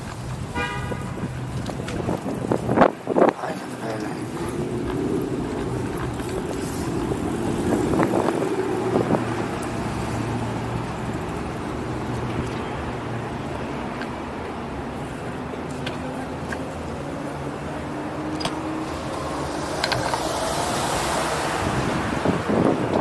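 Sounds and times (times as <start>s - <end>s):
vehicle engine running: 1.1s - 23.0s.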